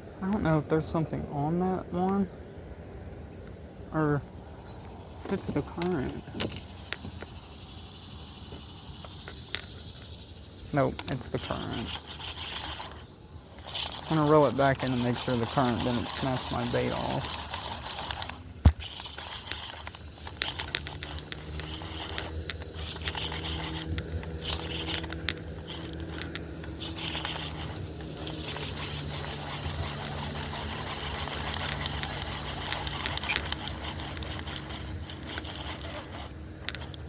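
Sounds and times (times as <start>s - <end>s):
fishing reel cranking: 5.2s - 37.0s.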